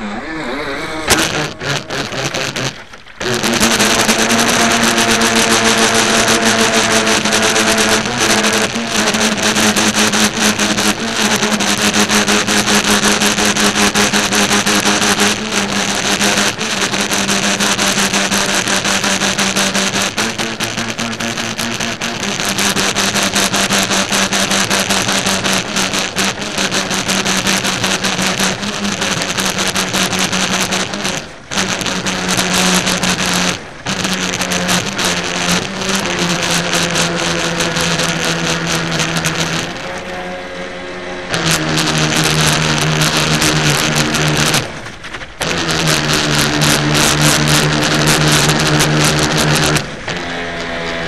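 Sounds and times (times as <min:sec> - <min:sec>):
model boat motor buzzing: 0:00.0 - 0:51.0.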